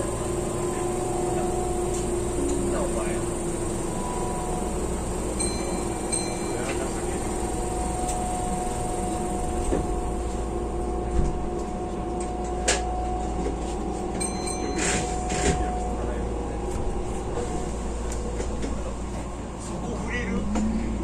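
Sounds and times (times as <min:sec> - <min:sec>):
train rumble with held tone: 0:00.0 - 0:21.0.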